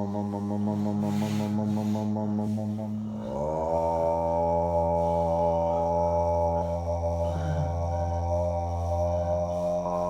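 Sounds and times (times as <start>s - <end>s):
low chanted vocal drone: 0.0s - 10.0s.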